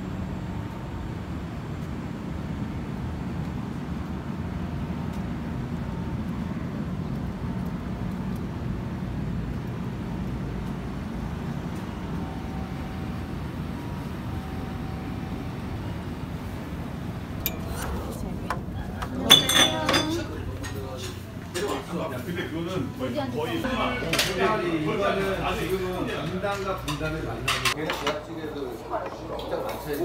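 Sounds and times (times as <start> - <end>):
low traffic rumble: 0.0 - 30.0.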